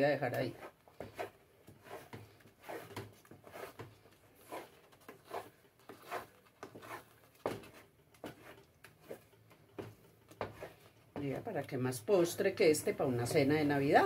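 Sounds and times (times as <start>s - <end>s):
wooden spoon scraping a pot: 0.0s - 14.0s.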